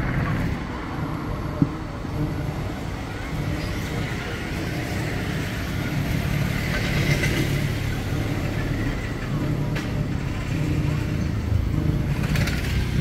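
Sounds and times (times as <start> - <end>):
traffic noise: 0.0 - 13.0
vehicle engine rumbling: 0.0 - 13.0.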